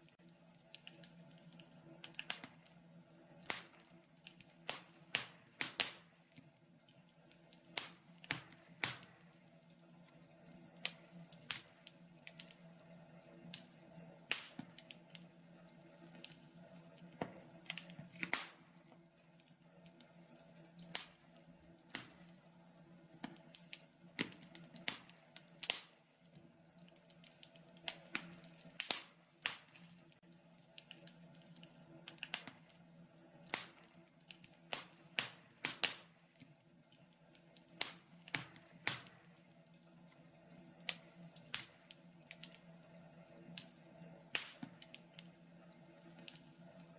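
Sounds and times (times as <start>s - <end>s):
faint steady hum: 0.0s - 46.9s
fire popping and snapping: 0.0s - 46.9s.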